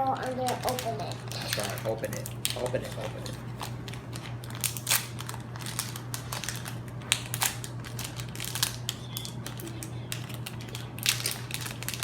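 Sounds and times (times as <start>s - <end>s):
wrapper crinkling and tearing: 0.0s - 12.0s.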